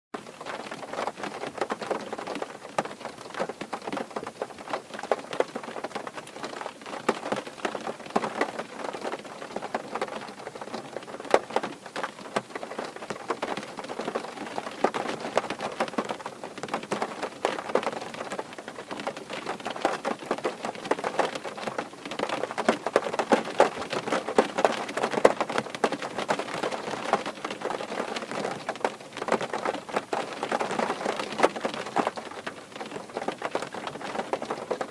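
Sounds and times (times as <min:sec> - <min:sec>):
rain on car roof: 0:00.2 - 0:34.9.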